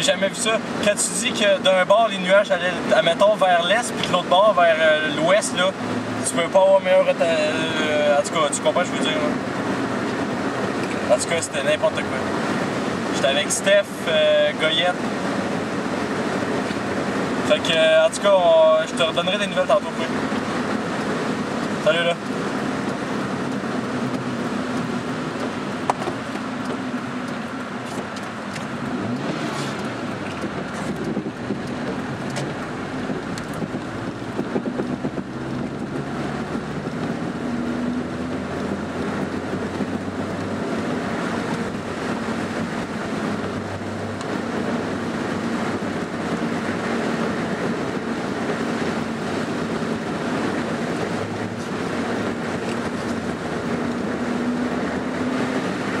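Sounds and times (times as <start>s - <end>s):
car engine drone: 0.0s - 56.0s
tyre noise on wet road: 0.0s - 56.0s.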